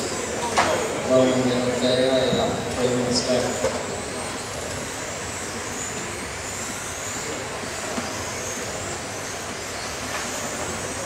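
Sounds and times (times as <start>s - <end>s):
rc car motors whining: 0.0s - 11.0s
steady rush of noise: 0.0s - 11.0s.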